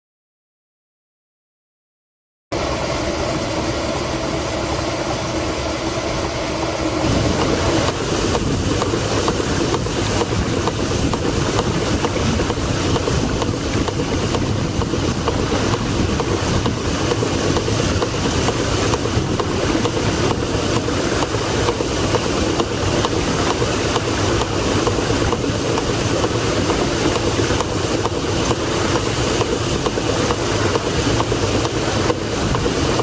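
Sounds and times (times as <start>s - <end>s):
steam engine rumbling and ticking: 2.5s - 33.0s.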